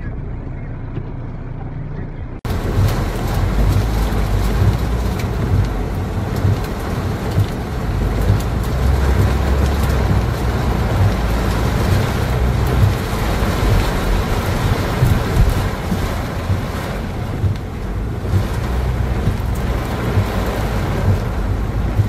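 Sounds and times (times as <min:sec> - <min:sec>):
car rumble: 0:00.0 - 0:22.0
rain and wind rushing: 0:02.4 - 0:22.0.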